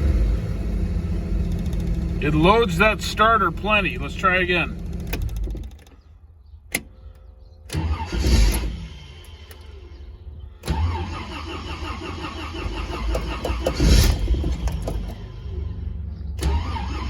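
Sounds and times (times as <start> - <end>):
car starter cranking engine: 0.0 - 6.1, 6.7 - 17.0.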